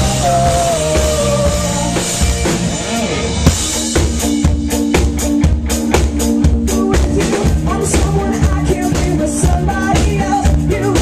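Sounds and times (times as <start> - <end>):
pop-rock band playing: 0.0 - 11.0.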